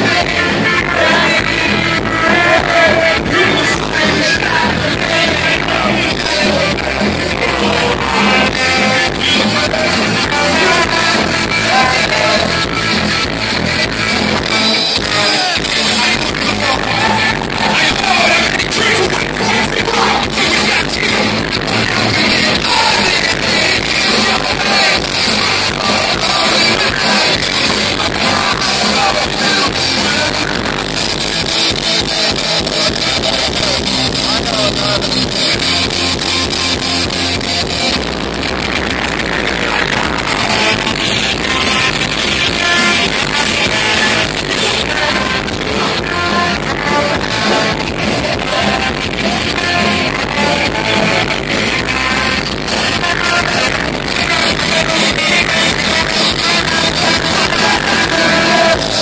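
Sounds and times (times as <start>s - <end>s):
punk rock band playing live: 0.0s - 59.0s.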